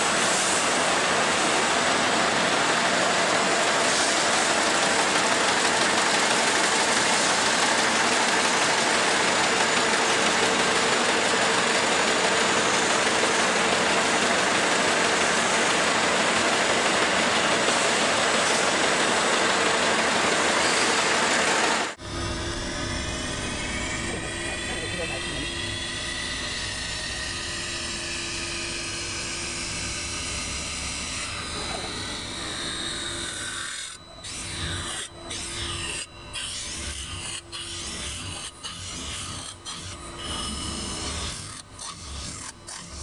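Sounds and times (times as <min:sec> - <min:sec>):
factory machinery running: 0:00.0 - 0:43.0.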